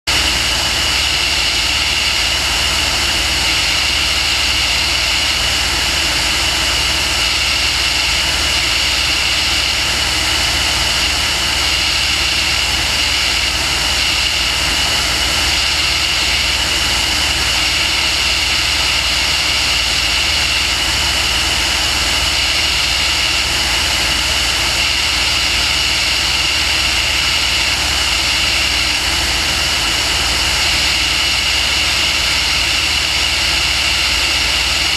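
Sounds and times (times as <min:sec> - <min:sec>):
aircraft engine and propeller noise: 0:00.1 - 0:34.9.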